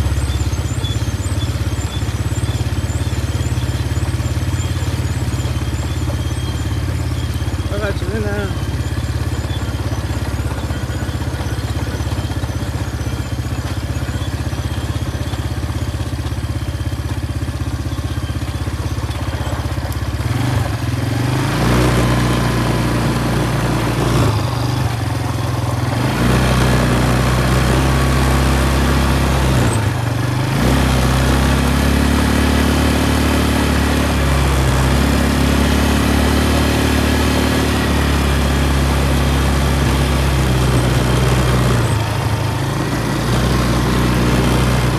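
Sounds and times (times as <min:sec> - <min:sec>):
quad bike engine running: 0:00.0 - 0:44.9.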